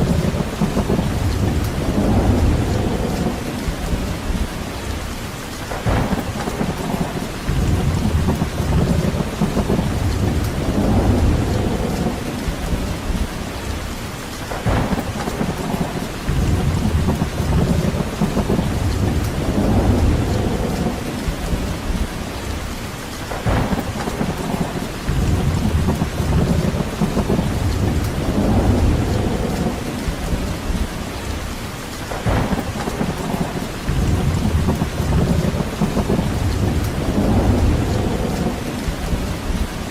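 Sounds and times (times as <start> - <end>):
deep rumble: 0.0 - 5.0, 5.8 - 13.8, 14.6 - 22.6, 23.4 - 31.4, 32.2 - 39.9
heavy rain: 0.0 - 39.9.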